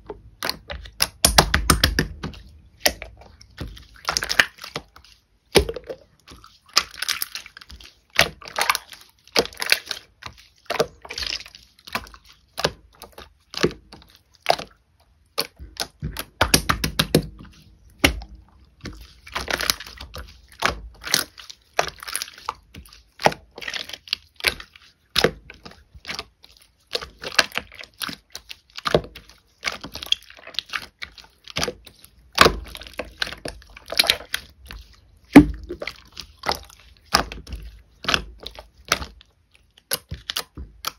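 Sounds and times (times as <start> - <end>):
slime squishing by hand: 0.0 - 40.9.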